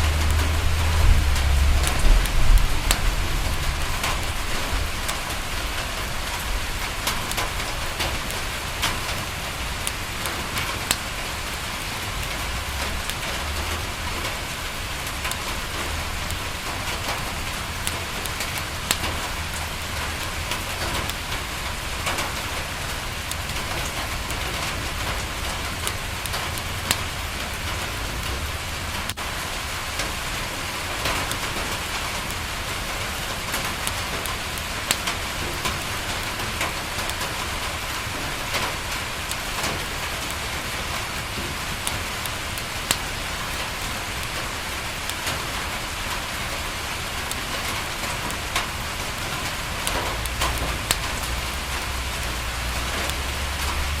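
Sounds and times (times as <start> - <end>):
rain on window glass: 0.0 - 54.0
wood fire crackling: 0.0 - 54.0.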